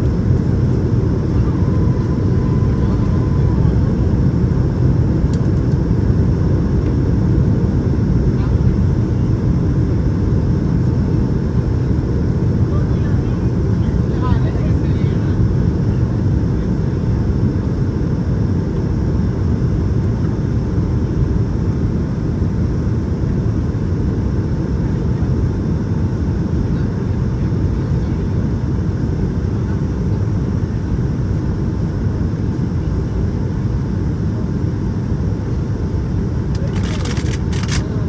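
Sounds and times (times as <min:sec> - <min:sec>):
airplane cabin rumble: 0:00.0 - 0:38.0
faint steady whine: 0:00.0 - 0:38.0.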